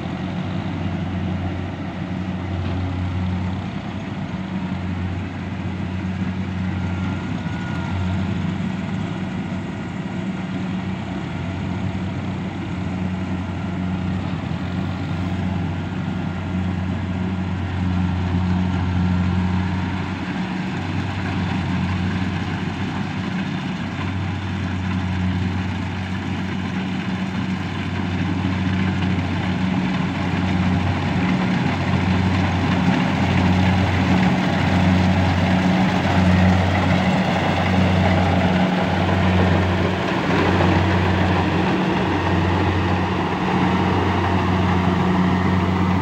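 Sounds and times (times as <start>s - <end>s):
combine harvester running: 0.0s - 46.0s.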